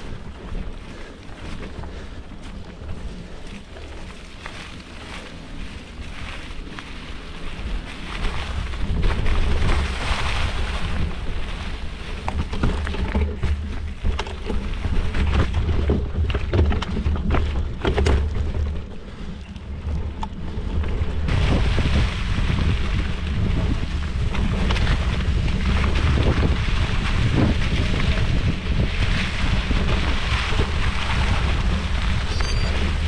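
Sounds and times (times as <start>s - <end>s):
bike rattling over bumps: 0.0s - 33.0s
bike tyres rolling on dirt: 0.0s - 33.0s
wind rumble: 0.0s - 33.0s.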